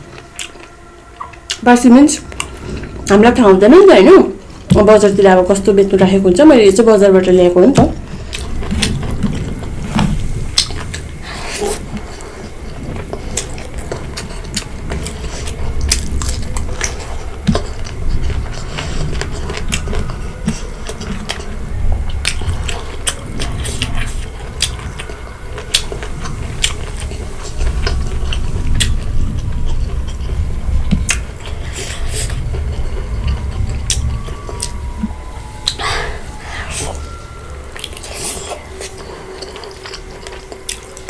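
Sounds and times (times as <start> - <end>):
chewing and biting food: 0.0 - 1.6, 8.0 - 41.0.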